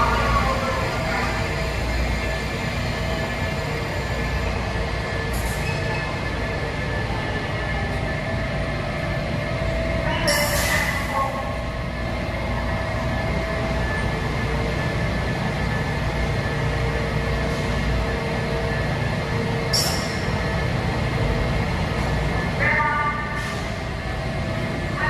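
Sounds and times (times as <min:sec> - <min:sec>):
electric propulsion whine: 0:00.0 - 0:25.0
railcars rumbling: 0:00.0 - 0:25.0.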